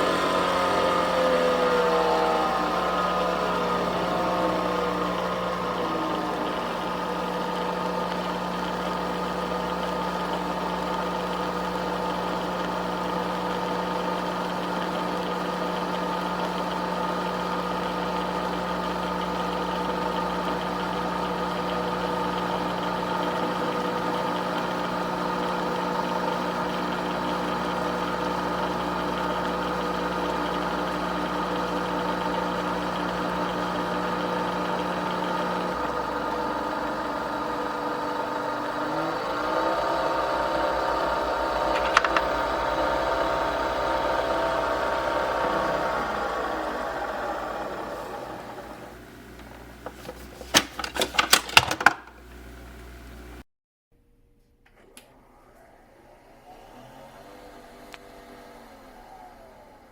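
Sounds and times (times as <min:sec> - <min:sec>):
coffee machine humming: 0:00.0 - 0:53.4.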